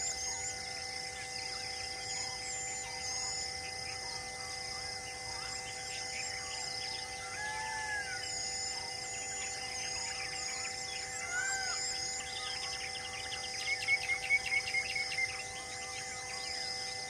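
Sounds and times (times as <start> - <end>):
droning hum: 0.0 - 17.0
forest birds chirping: 0.0 - 17.0.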